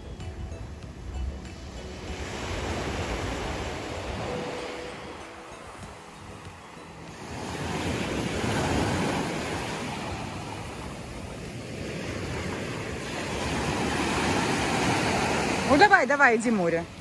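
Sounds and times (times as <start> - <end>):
small waves washing on sand: 1.9 - 17.0.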